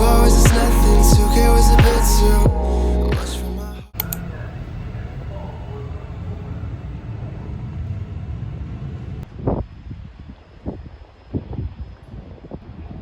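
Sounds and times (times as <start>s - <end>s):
vehicle rumble: 0.0s - 11.4s.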